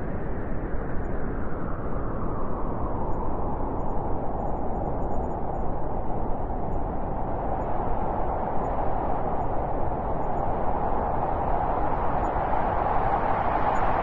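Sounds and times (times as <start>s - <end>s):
blizzard wind howling: 0.0s - 14.0s.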